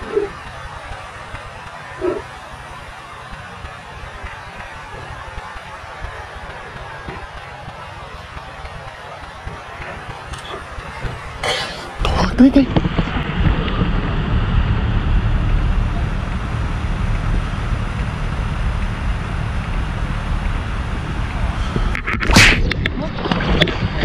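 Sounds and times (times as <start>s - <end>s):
sharp burst of noise: 0.0s - 24.0s
wind buffeting microphone: 0.0s - 24.0s.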